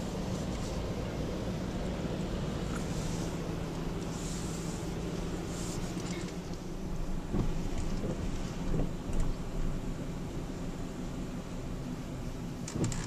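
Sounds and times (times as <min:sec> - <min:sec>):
water hissing under tyres: 0:00.0 - 0:12.0
engine and road hum: 0:00.0 - 0:13.0.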